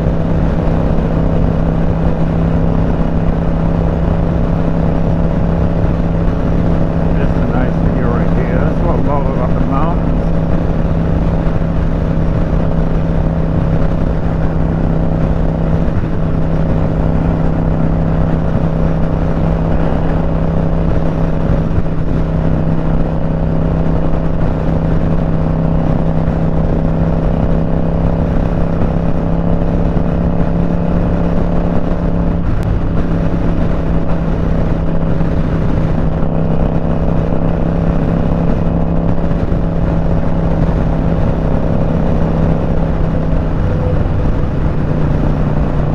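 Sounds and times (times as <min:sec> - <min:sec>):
motorcycle engine drone: 0:00.0 - 0:45.9
wind rushing over microphone: 0:00.0 - 0:45.9.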